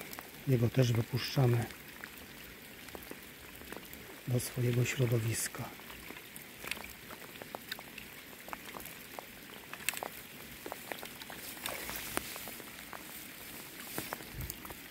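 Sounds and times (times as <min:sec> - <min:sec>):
raindrops ticking: 0:00.0 - 0:14.9
soft rain hiss: 0:00.0 - 0:14.9.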